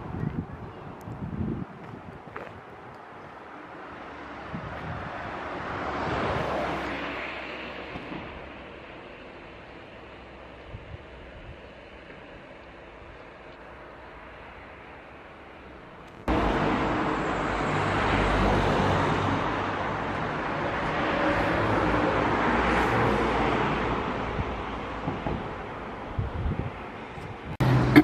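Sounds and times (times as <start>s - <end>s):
traffic passing close by: 0.0s - 28.0s.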